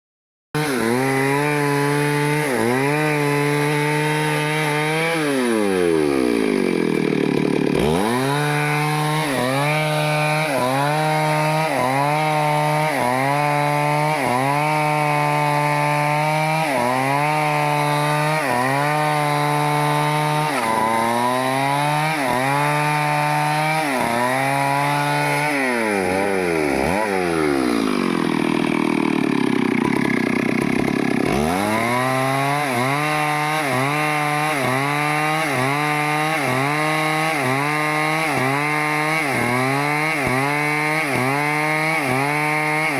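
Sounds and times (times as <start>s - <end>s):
chainsaw cutting wood: 0.6s - 42.9s.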